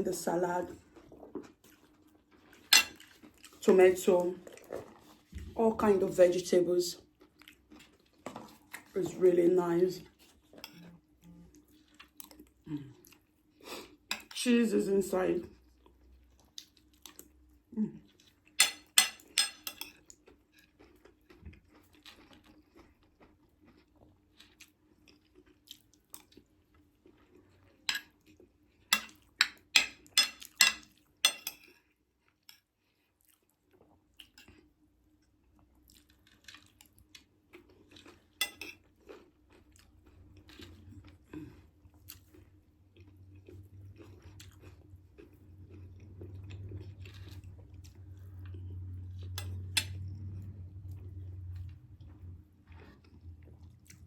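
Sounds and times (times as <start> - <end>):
person chewing: 0.8 - 3.6, 4.3 - 5.5, 7.0 - 9.0, 10.1 - 14.3, 15.6 - 54.0.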